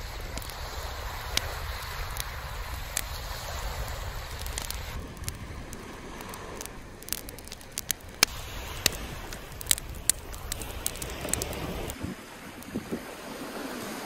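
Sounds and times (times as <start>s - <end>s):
campfire crackling and popping: 0.0s - 13.4s.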